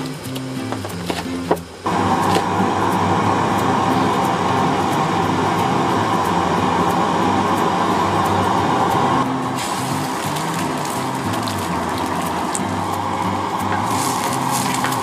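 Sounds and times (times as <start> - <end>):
gas burner hissing: 0.0 - 15.0.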